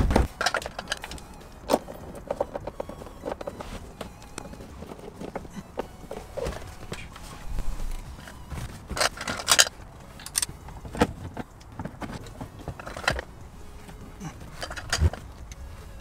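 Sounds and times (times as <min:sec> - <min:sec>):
plastic parts clicking and knocking: 0:00.0 - 0:16.0
jingling rattle: 0:00.3 - 0:16.0.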